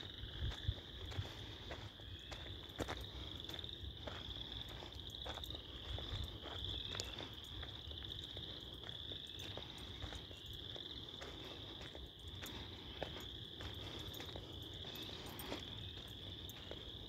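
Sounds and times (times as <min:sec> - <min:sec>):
footsteps on gravel: 0:00.0 - 0:17.0
frogs calling: 0:00.0 - 0:17.0.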